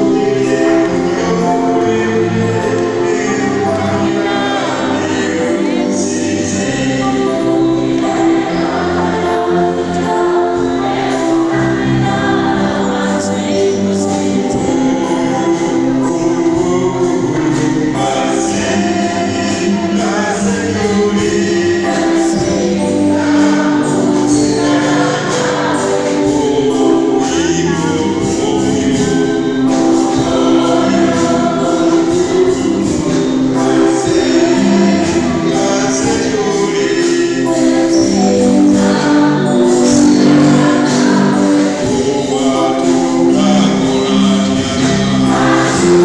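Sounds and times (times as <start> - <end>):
congregation singing: 0.0 - 46.0.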